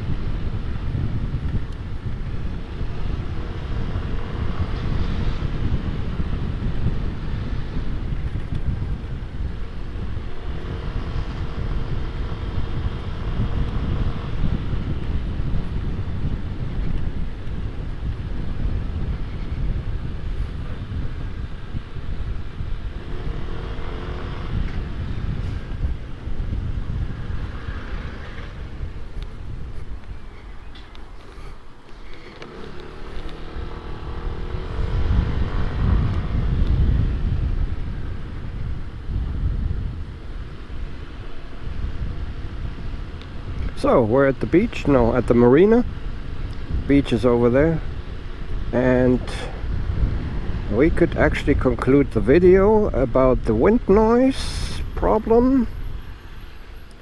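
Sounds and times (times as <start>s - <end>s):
wind buffeting helmet microphone: 0.0s - 57.0s.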